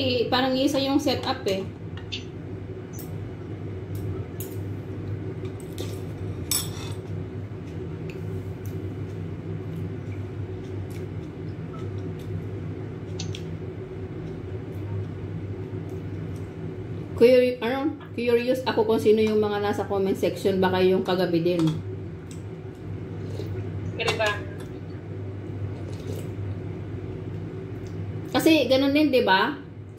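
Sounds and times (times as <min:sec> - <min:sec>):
low hum: 0:00.0 - 0:29.9.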